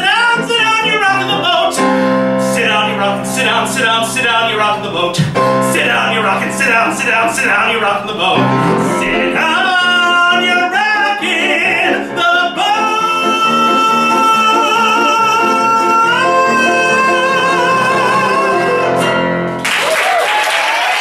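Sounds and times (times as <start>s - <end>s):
man singing: 0.0s - 19.4s
keyboard accompaniment: 0.0s - 19.7s.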